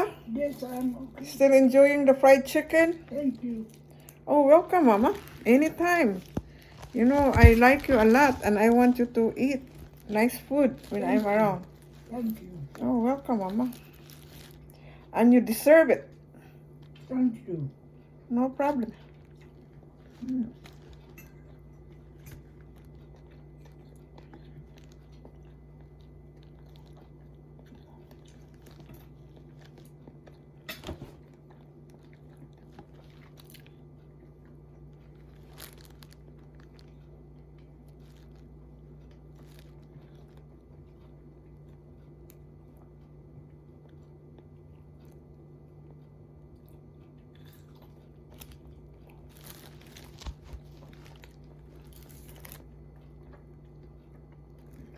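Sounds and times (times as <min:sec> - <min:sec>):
crunching and chewing: 0:00.0 - 0:54.9
steady low hum: 0:00.0 - 0:54.9.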